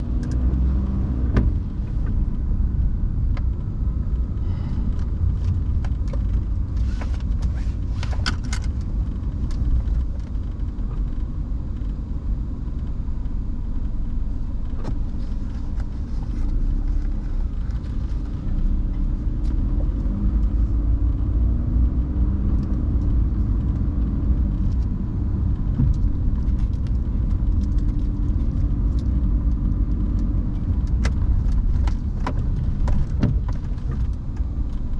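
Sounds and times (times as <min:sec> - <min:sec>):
road and engine rumble: 0:00.0 - 0:34.9.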